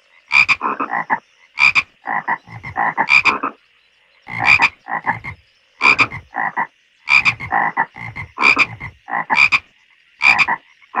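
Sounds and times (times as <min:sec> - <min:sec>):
frogs croaking: 0:00.0 - 0:11.0.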